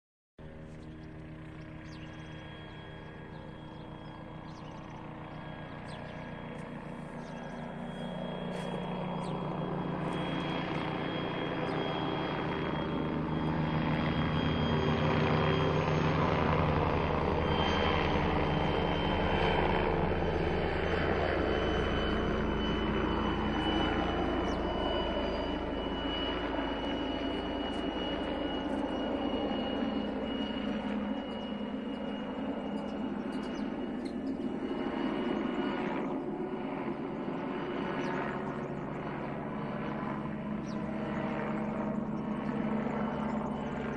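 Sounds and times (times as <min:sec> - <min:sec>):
helicopter rotor chop: 0:00.4 - 0:43.9
high turbine whine: 0:00.4 - 0:43.9.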